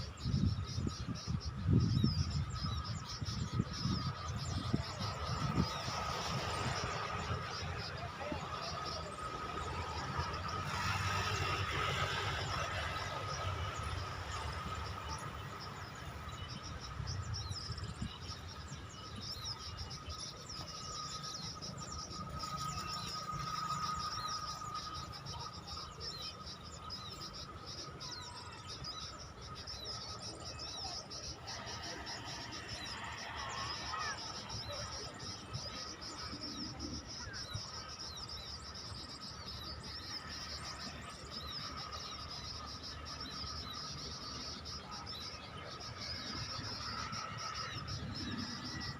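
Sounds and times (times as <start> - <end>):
birds chirping: 0.0 - 48.9
insects trilling: 0.0 - 48.9.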